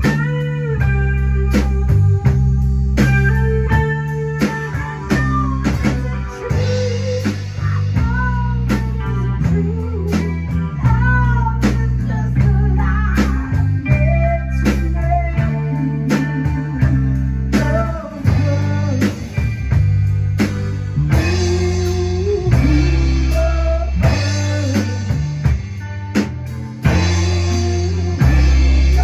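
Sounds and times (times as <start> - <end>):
bass line: 0.0 - 29.0
electric guitar bending notes: 0.0 - 29.0
steady drum beat: 0.0 - 29.0.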